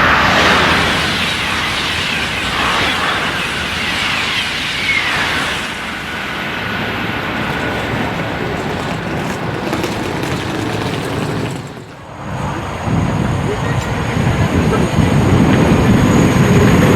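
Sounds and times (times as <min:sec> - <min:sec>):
high-speed train rushing past: 0:00.0 - 0:16.9.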